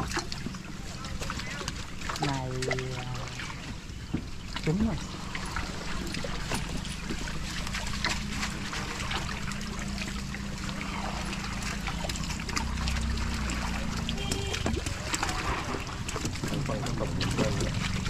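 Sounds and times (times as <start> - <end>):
fish splashing in a net: 0.0 - 18.0
water trickling: 0.0 - 18.0.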